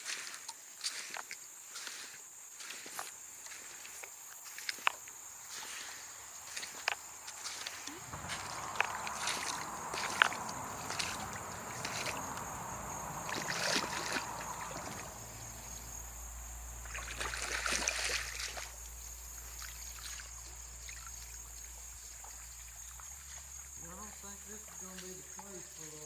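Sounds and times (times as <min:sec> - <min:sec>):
creek water sloshing and splashing: 0:00.0 - 0:26.0
stream trickling: 0:00.0 - 0:26.0.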